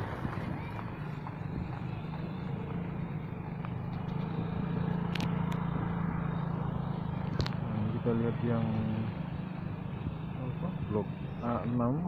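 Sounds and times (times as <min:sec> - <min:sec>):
outdoor background noise: 0:00.0 - 0:12.0
vehicle engine humming: 0:00.0 - 0:12.0.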